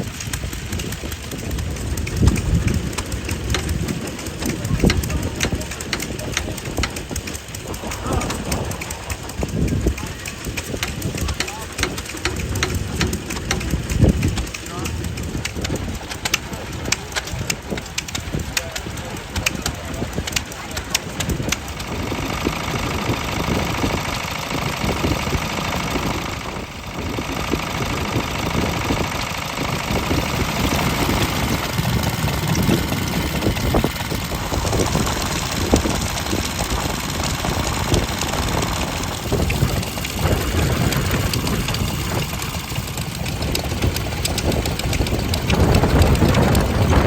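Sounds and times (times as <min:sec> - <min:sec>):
stationary engines running: 0:00.0 - 0:47.0.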